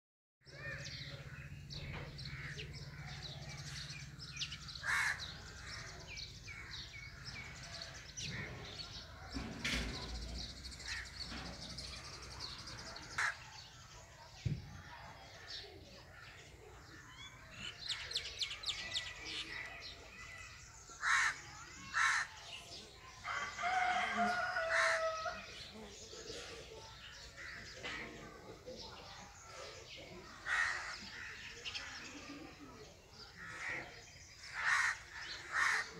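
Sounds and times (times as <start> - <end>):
small birds chirping: 0.4 - 35.9.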